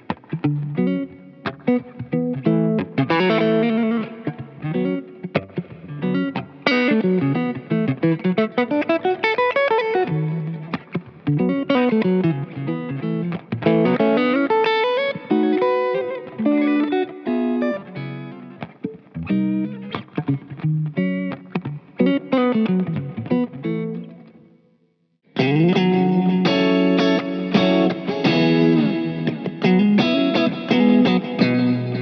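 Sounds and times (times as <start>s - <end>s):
electric guitar with effects: 0.0s - 32.0s.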